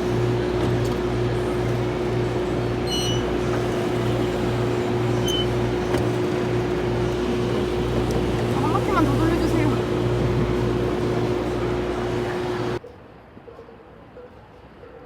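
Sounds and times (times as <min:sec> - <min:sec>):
machine hum with low throb: 0:00.0 - 0:12.8.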